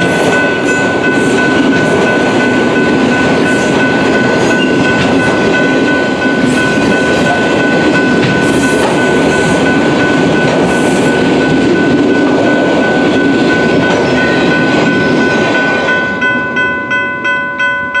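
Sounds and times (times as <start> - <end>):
crossing bell ringing: 0.0 - 18.0
freight train wheels rumbling and rattling: 0.0 - 18.0.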